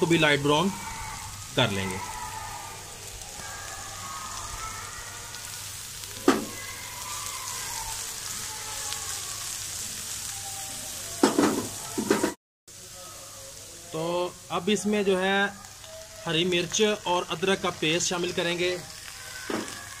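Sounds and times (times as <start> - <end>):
onions sizzling in a pan: 0.0 - 20.0.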